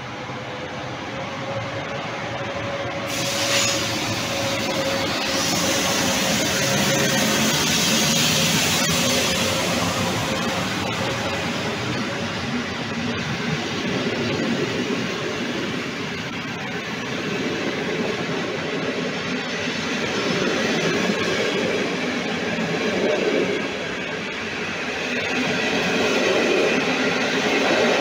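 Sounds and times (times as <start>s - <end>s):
train coaches rolling on rails: 0.0s - 28.0s.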